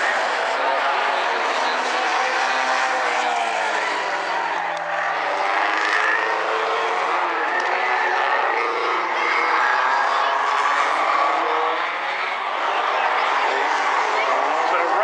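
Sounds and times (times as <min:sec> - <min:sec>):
race car engines at full throttle: 0:00.0 - 0:15.0.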